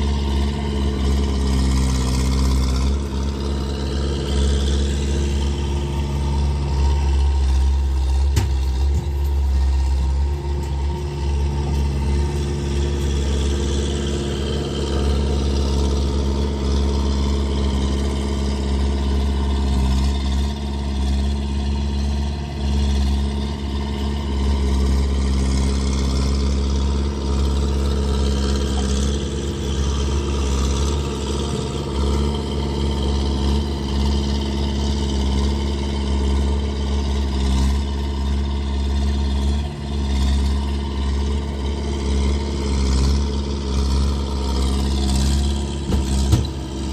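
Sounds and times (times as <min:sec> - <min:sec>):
skid steer engine running: 0:00.0 - 0:46.9.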